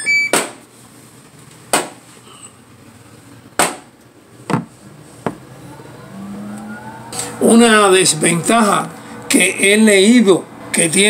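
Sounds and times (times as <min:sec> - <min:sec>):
washer-dryer motor whine and hum: 0:00.0 - 0:01.8, 0:02.8 - 0:11.0.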